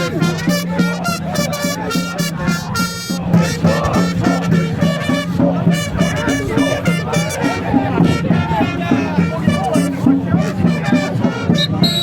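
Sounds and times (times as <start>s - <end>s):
brass trumpets and drums playing: 0.0s - 12.0s.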